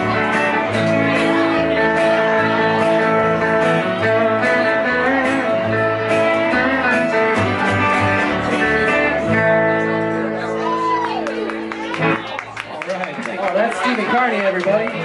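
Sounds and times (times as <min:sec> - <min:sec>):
acoustic guitar: 0:00.0 - 0:12.6
electric guitar lead: 0:00.0 - 0:12.8.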